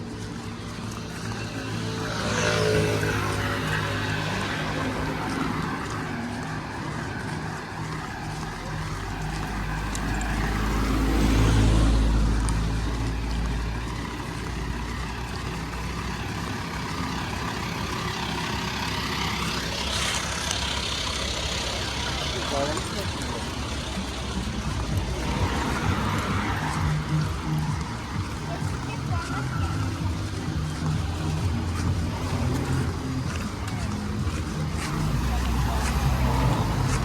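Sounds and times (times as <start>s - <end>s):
passing vehicle engine hum: 0.0s - 37.0s.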